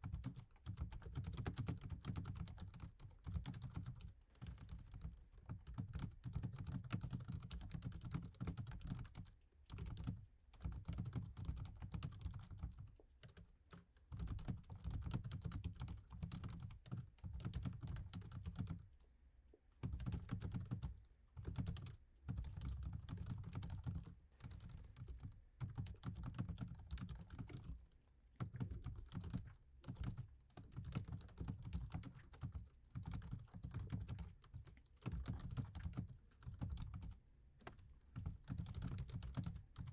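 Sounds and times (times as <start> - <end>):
fast typing on laptop keyboard: 0.0 - 18.9, 19.8 - 39.9.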